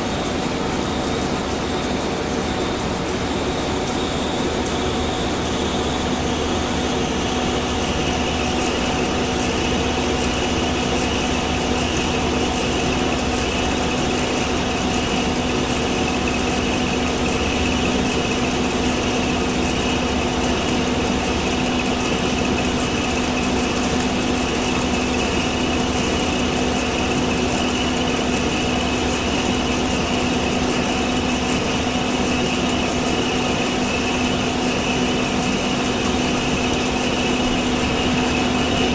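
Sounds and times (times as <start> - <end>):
industrial machinery hum and whine: 0.0 - 38.9.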